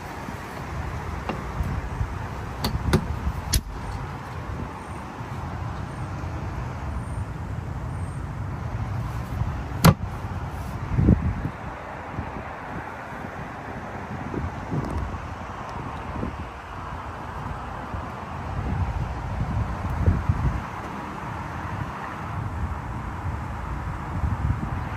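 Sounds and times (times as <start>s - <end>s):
wind on microphone: 0.0s - 7.7s, 8.4s - 24.9s.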